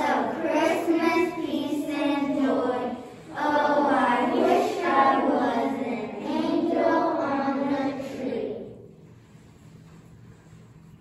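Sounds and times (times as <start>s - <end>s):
children singing long notes: 0.0s - 9.0s.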